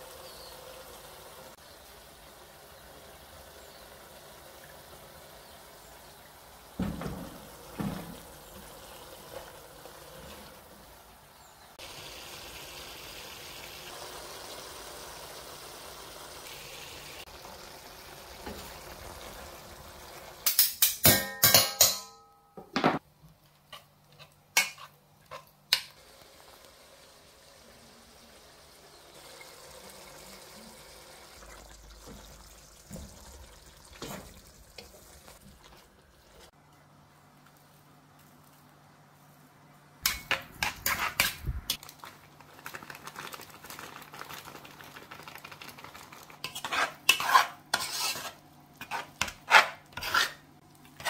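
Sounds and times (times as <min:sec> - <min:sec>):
pork frying hiss: 0:00.0 - 0:22.0, 0:23.0 - 0:36.6, 0:40.0 - 0:51.0.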